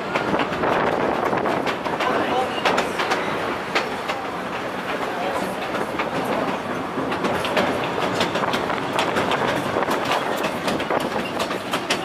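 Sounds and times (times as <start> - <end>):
train car rumble and rattle: 0.0 - 12.0
wheels clicking over rail joints: 0.0 - 12.0.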